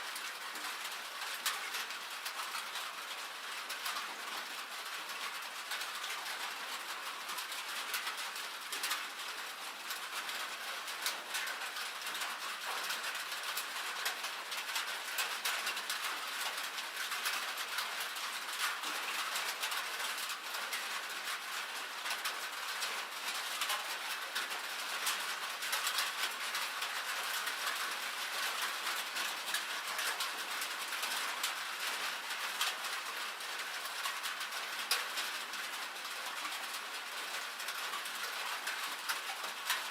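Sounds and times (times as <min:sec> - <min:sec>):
rain and hail on a metal roof: 0:00.0 - 0:39.9.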